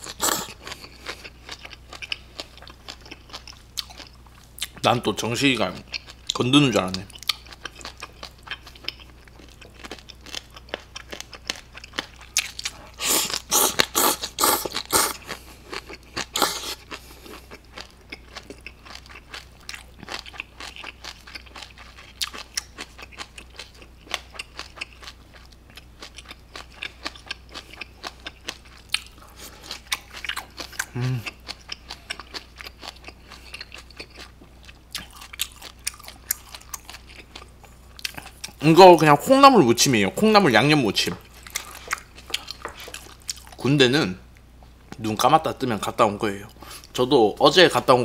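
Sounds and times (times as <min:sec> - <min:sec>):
wet chewing and crunching: 0:00.0 - 0:39.1, 0:41.0 - 0:43.7.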